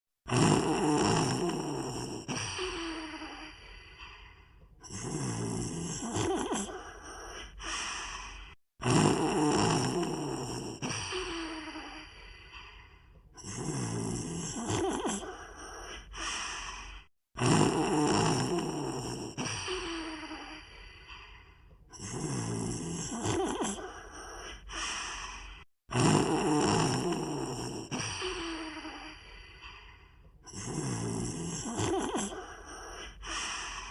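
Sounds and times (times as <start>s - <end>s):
cartoon dog snoring: 0.3s - 3.9s, 4.8s - 12.7s, 13.4s - 16.8s, 17.4s - 21.2s, 21.9s - 24.0s, 25.9s - 33.9s
sighing breaths: 0.3s - 33.9s.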